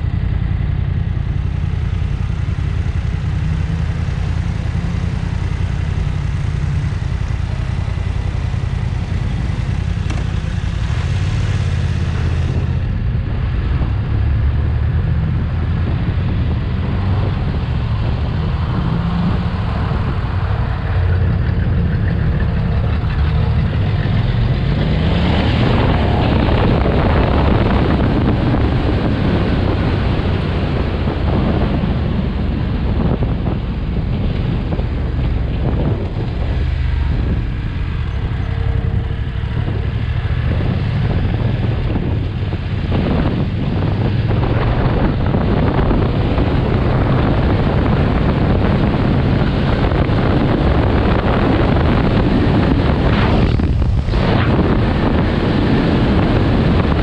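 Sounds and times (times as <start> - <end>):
motorcycle engine running: 0.0 - 57.0
wind on microphone: 1.6 - 57.0.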